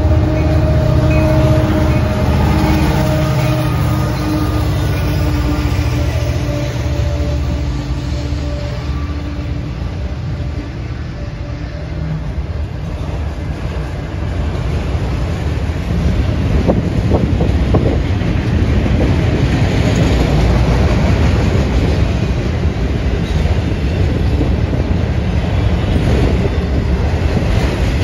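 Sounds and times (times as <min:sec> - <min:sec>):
train wheels clacking on rails: 0:00.0 - 0:10.1, 0:12.0 - 0:28.0.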